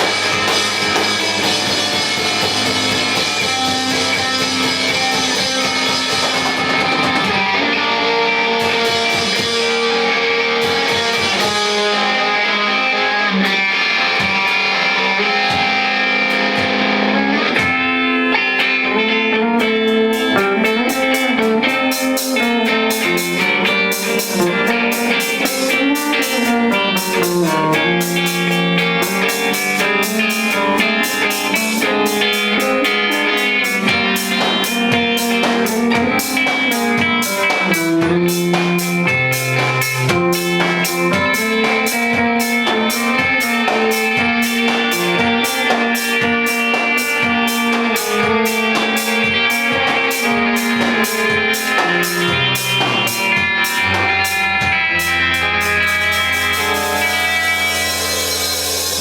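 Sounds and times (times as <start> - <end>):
distorted electric guitar chords: 0.0 - 59.0
drum kit with cymbals: 0.0 - 59.0.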